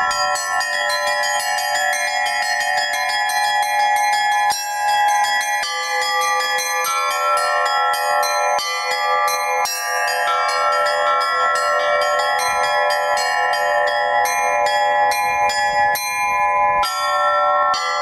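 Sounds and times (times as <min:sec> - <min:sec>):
large bells ringing: 0:00.0 - 0:18.0
small bells struck rapidly: 0:00.0 - 0:18.0.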